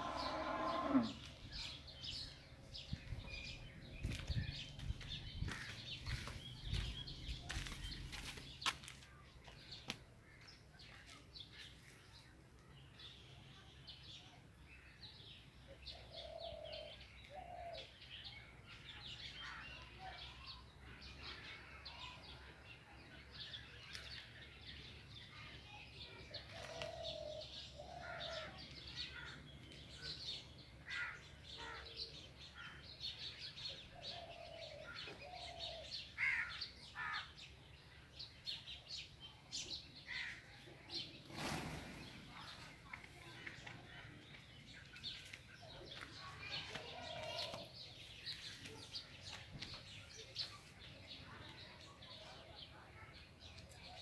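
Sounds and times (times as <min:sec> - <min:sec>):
small birds chirping: 0:00.0 - 0:14.4, 0:15.0 - 0:54.0.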